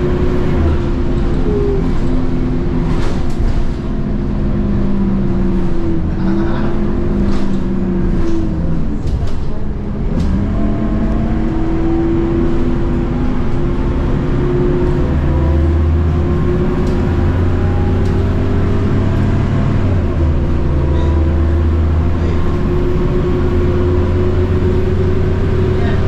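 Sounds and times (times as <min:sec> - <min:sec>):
bus diesel engine pulling hard: 0:00.0 - 0:26.0.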